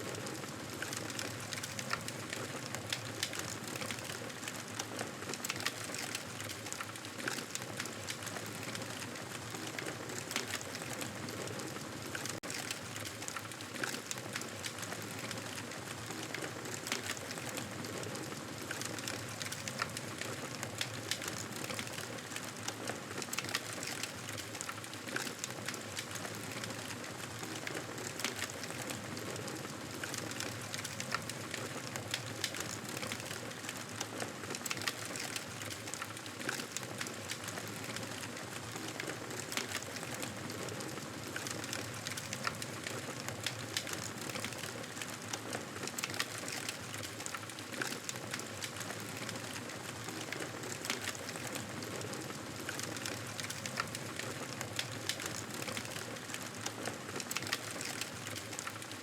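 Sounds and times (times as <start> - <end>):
fireplace crackling: 9.5 - 58.9.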